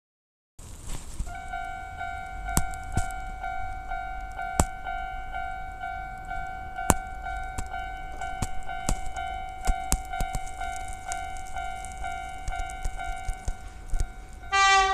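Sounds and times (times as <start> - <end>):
level crossing warning bell: 1.3 - 14.9.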